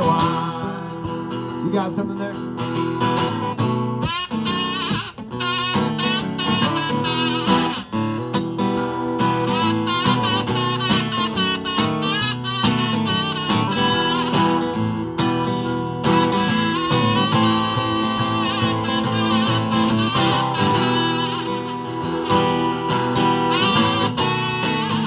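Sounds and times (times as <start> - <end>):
acoustic guitar strumming: 0.0 - 25.0
wavering lead melody: 4.0 - 25.0.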